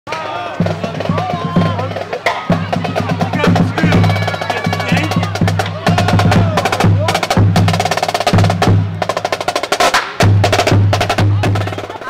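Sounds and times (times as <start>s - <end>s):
snare drum rolls: 0.1s - 12.0s
horns: 0.5s - 12.0s.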